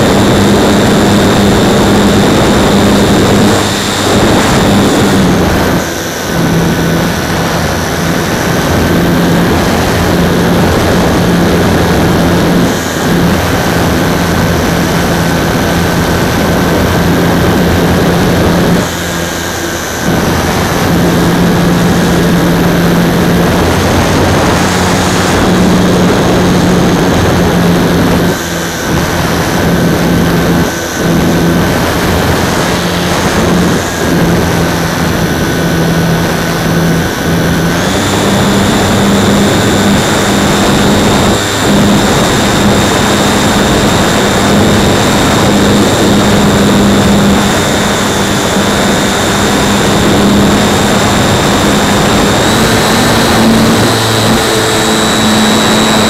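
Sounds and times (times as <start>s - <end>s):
model aircraft motor and propeller: 0.0s - 56.0s.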